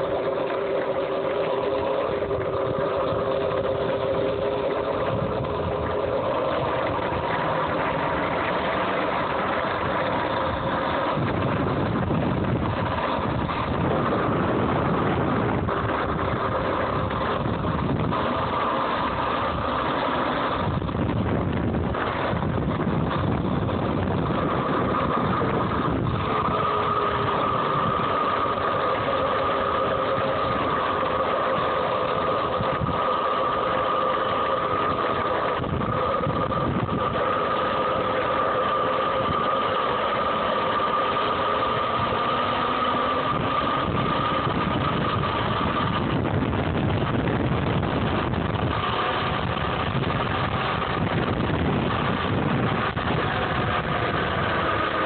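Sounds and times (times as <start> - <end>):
electric dirt bike whine: 0.0 - 55.0
rushing wind: 0.0 - 55.0.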